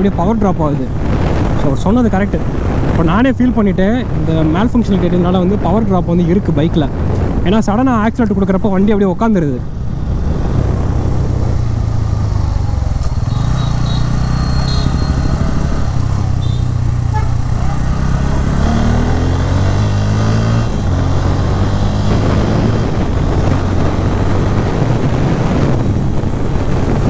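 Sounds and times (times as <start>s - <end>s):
motorcycle engine and exhaust: 0.0s - 27.0s
wind noise on microphone: 0.0s - 27.0s.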